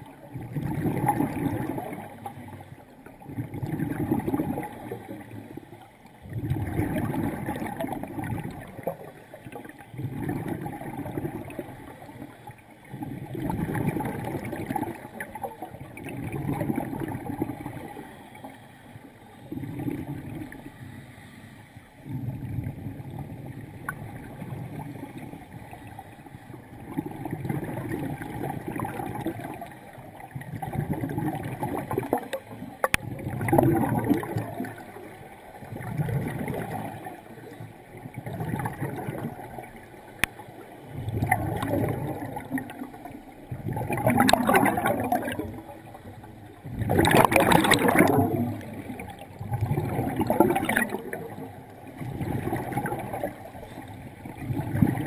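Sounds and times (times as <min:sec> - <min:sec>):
underwater bubbles gurgling: 0:00.0 - 0:55.0.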